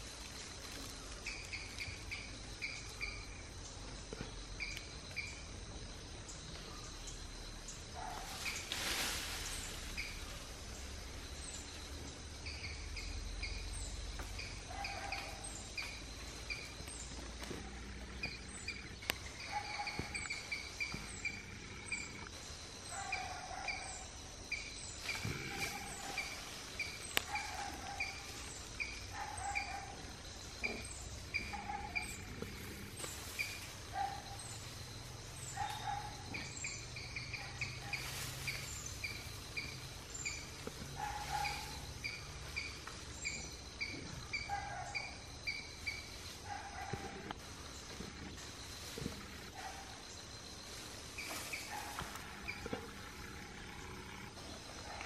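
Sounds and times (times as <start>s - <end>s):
background hiss: 0.0s - 55.0s
birds chirping: 9.4s - 55.0s.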